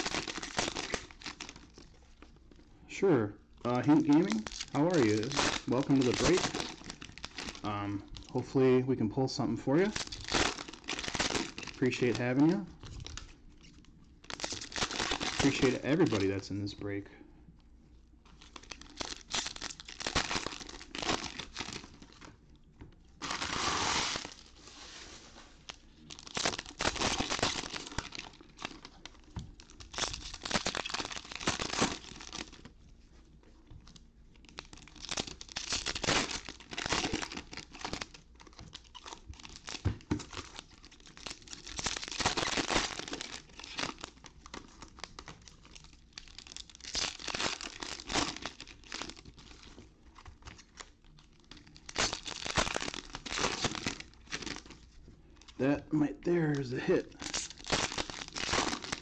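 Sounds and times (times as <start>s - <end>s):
card pack wrappers tearing and crinkling: 0.0s - 2.2s, 3.7s - 8.4s, 9.7s - 16.4s, 18.3s - 22.3s, 23.2s - 24.6s, 25.6s - 32.7s, 33.8s - 55.6s, 56.2s - 59.0s.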